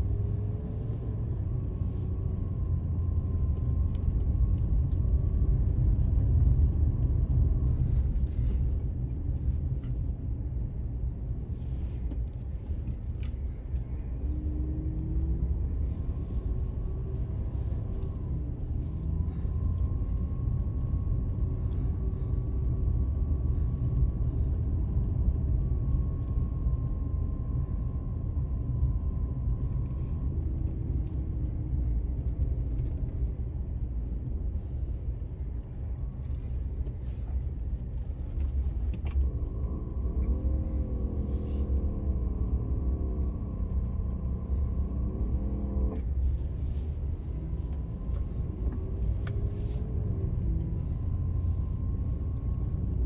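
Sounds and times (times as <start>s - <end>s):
road and engine rumble: 0.0s - 53.0s.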